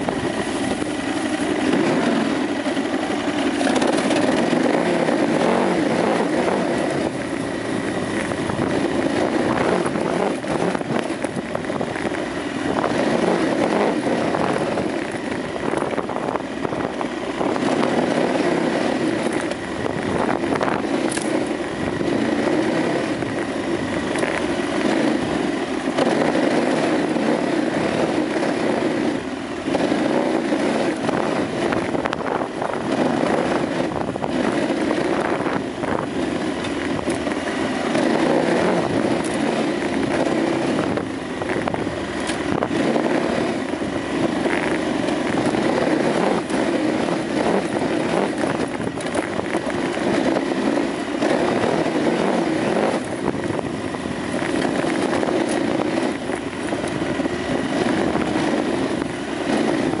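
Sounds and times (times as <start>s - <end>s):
motorcycle engine running: 0.0s - 60.0s
rushing wind: 0.0s - 60.0s.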